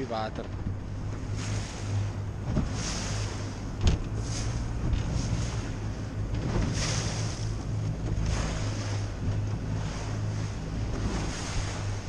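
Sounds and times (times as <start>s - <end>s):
boat engine drone: 0.0s - 12.0s
water rushing at bow: 0.0s - 12.0s.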